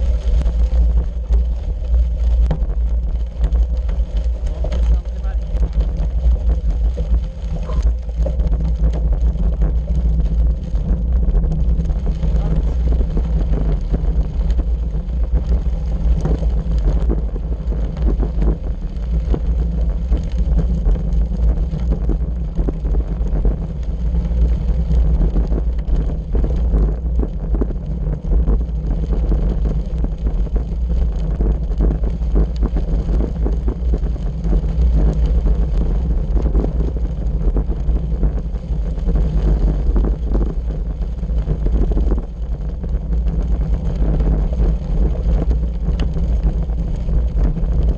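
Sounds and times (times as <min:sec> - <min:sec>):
bicycle tyres rumbling on gravel: 0:00.0 - 0:47.9
wind noise on microphone: 0:00.0 - 0:47.9.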